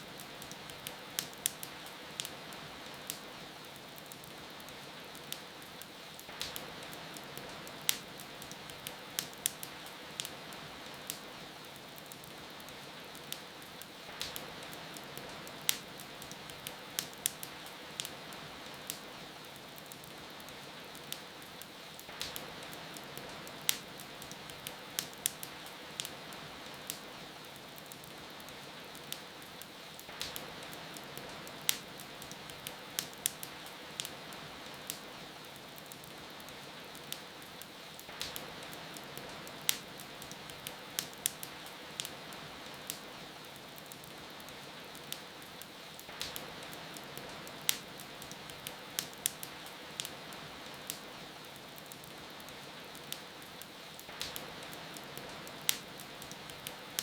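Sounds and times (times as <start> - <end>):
rain falling: 0.0 - 57.0
wood fire crackling and popping: 0.0 - 57.0.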